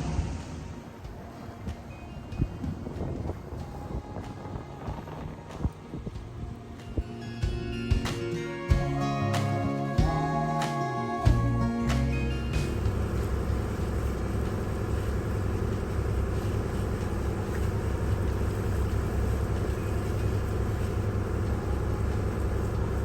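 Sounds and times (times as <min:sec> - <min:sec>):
boat diesel engine droning: 0:00.0 - 0:23.0.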